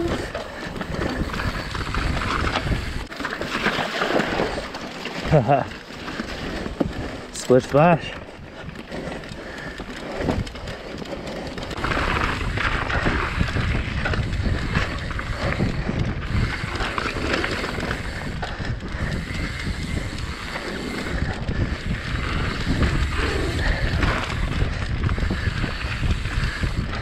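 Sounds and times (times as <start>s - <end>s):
wind rushing over microphone: 0.0s - 3.1s, 6.3s - 27.0s
bike tyre rumble on trail: 0.0s - 27.0s.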